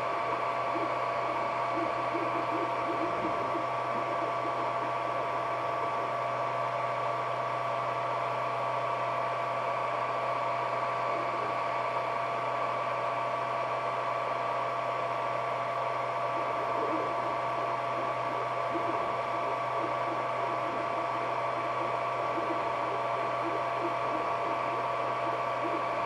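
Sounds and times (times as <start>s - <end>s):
three d printer fans whirring: 0.0s - 26.0s.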